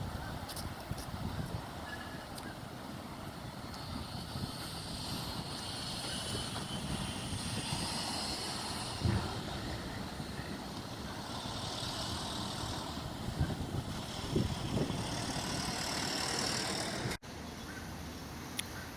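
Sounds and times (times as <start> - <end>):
wind buffeting microphone: 0.0 - 17.2.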